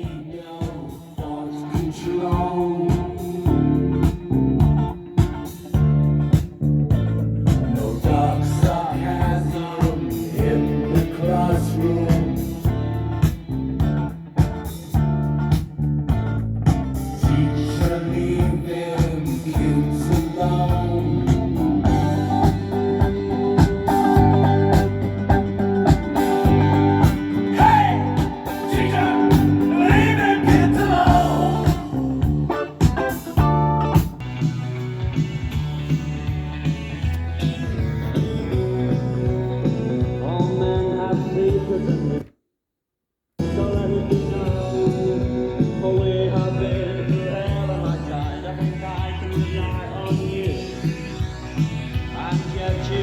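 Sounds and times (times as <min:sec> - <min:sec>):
song with guitars and bass beat: 0:00.0 - 0:42.3, 0:43.4 - 0:53.0.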